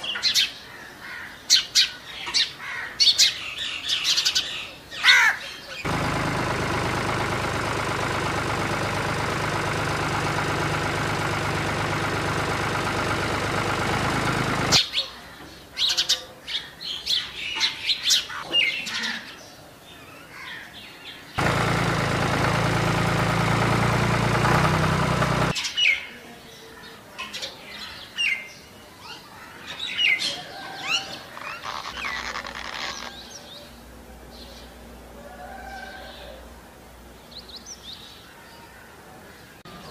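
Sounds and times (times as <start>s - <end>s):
birds chirping: 0.0s - 34.8s.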